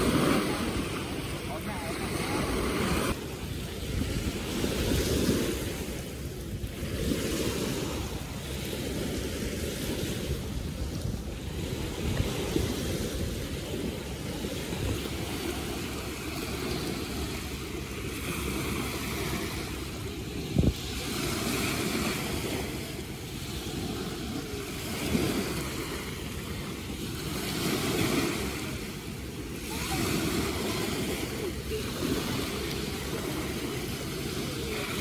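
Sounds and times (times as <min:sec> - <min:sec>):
surf washing in and out: 0:00.0 - 0:35.0
wind buffeting microphone: 0:00.0 - 0:35.0.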